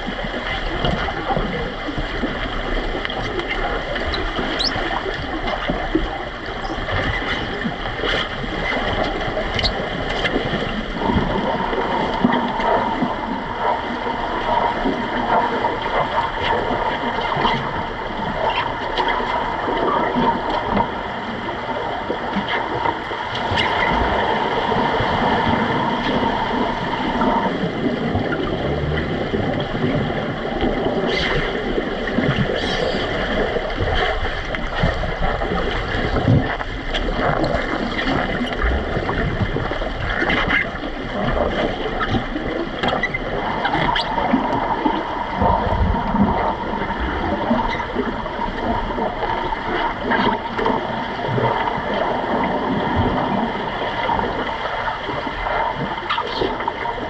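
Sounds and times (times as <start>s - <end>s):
underwater rushing and bubbles: 0.0s - 57.0s.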